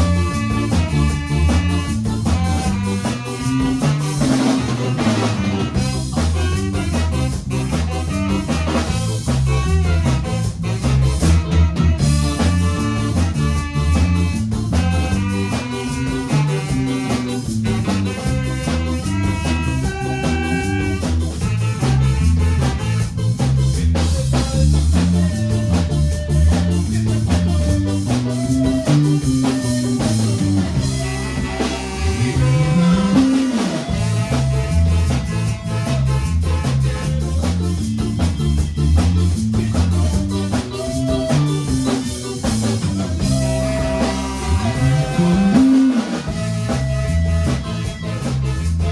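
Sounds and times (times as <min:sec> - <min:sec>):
ska band music: 0:00.0 - 0:48.9.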